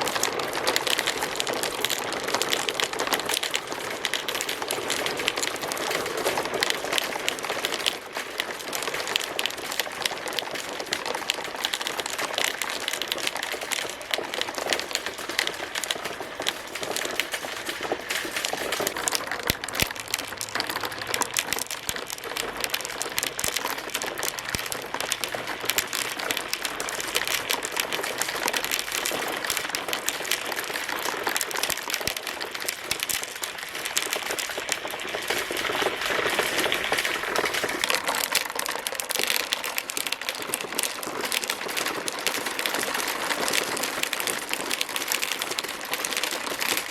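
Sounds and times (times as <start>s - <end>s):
marbles clattering down a track: 0.0s - 46.9s.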